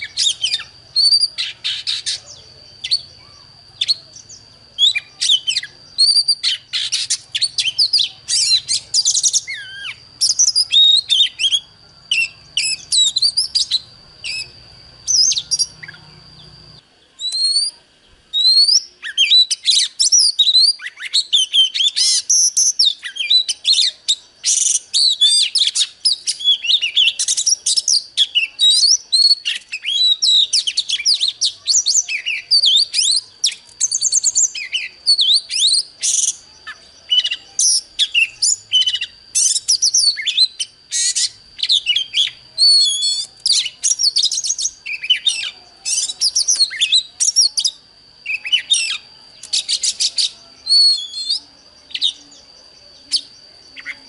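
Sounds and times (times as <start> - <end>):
bird singing whistles and trills: 0.0 - 54.0
thin steady high tone: 0.0 - 54.0.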